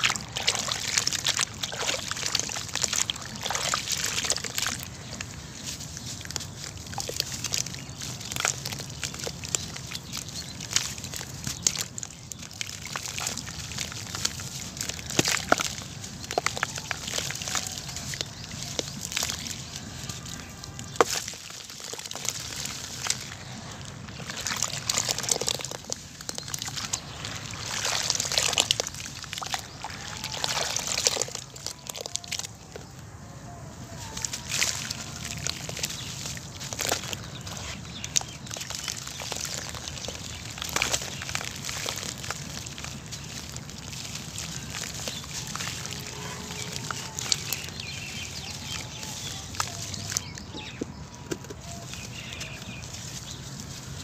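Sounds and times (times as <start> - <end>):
water dripping: 0.0 - 32.9, 34.0 - 53.7
water sloshing: 0.0 - 32.9, 34.0 - 54.0
gritty crackles of wet sand: 0.0 - 54.0.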